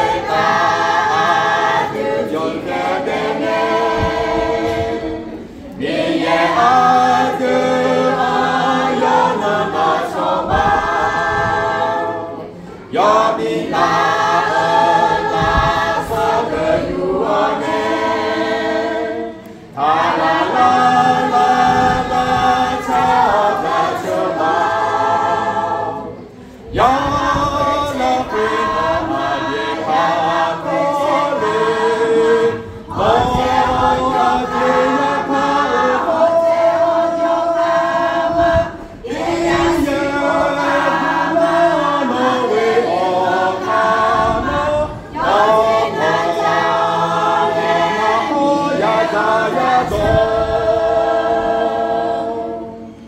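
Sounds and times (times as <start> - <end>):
choir singing a hymn unaccompanied: 0.0 - 53.0.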